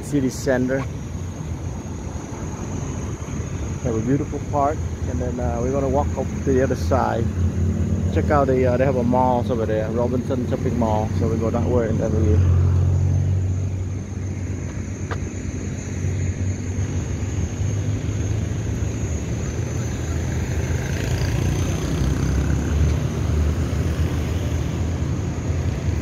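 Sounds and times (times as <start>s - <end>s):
road traffic rumble: 0.0s - 26.0s
vehicle passing: 0.0s - 26.0s.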